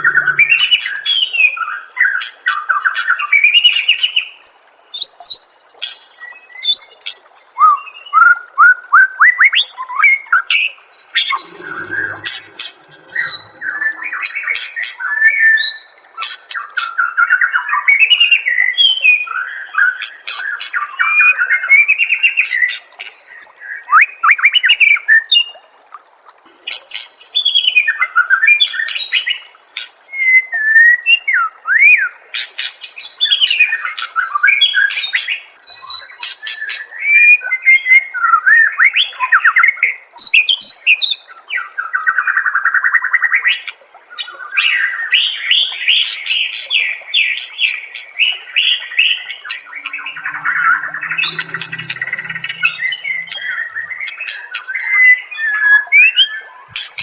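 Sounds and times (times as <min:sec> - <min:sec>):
bird singing varied phrases: 0:00.0 - 0:25.5, 0:26.7 - 0:41.3, 0:43.1 - 0:57.0.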